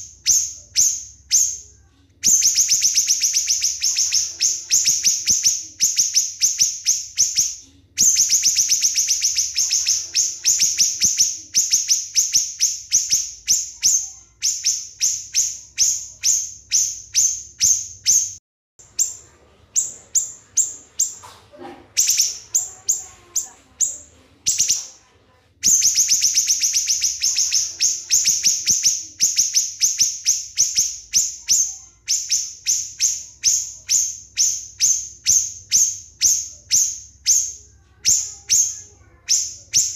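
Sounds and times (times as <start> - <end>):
songbird singing high notes: 0.0 - 21.2, 25.6 - 39.9.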